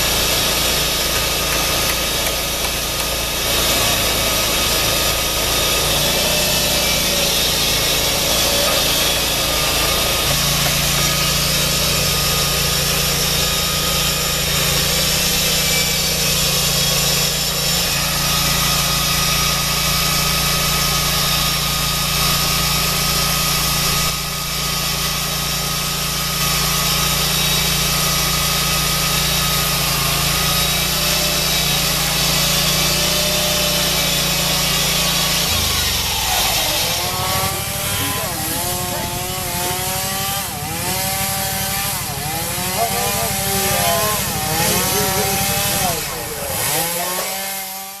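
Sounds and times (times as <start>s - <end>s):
sawmill engine sawing log: 0.0s - 48.0s.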